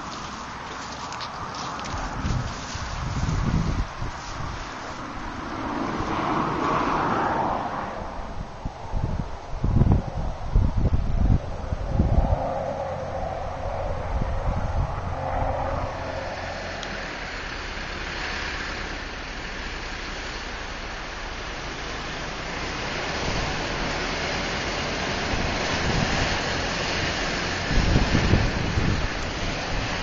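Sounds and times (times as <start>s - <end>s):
diesel engines under load: 0.0s - 30.0s
low engine hum: 0.0s - 30.0s
steady rushing noise: 0.0s - 30.0s.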